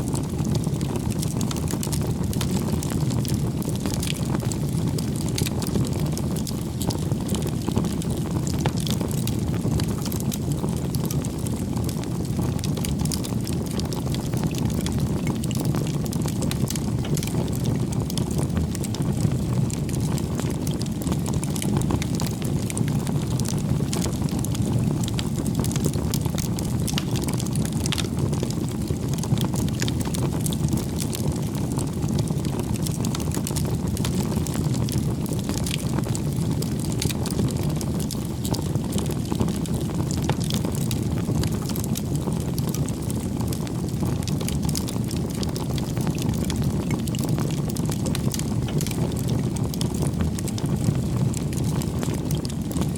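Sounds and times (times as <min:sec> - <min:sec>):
campfire crackling: 0:00.1 - 0:52.9.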